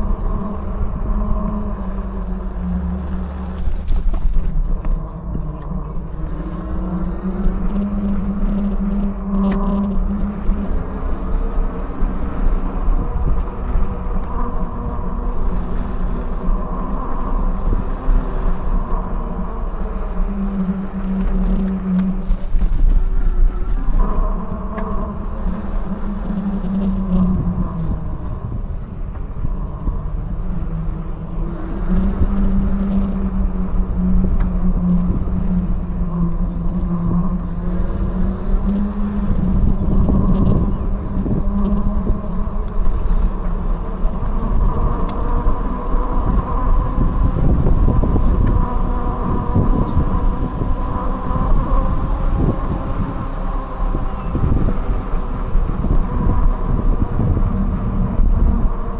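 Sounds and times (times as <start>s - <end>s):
electric motor hum: 0.0s - 58.9s
wind on microphone: 0.0s - 58.9s.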